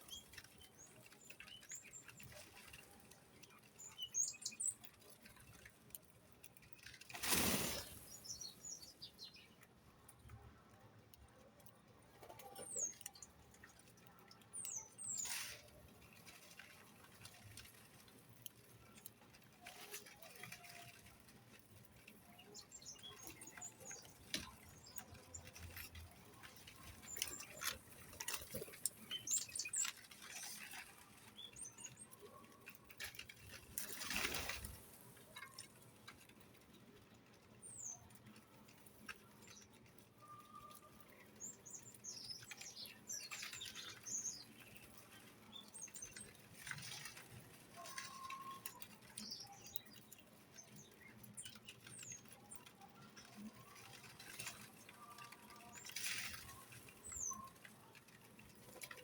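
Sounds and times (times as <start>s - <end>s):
light pattering and clicks: 0.0s - 59.0s
small birds chirping: 0.0s - 59.0s.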